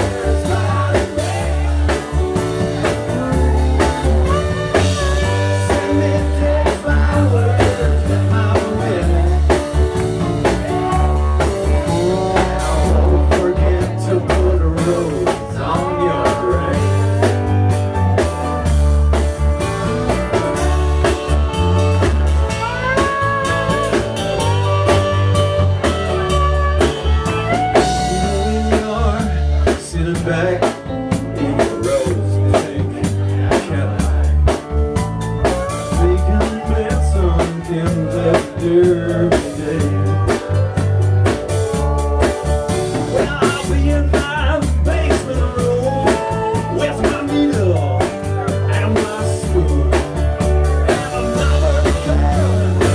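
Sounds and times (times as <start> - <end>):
live blues rock band: 0.0 - 52.9.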